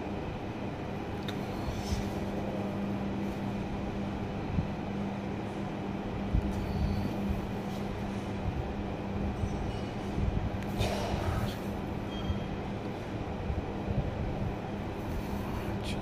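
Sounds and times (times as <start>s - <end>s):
steady hum and rumble: 0.0s - 16.0s.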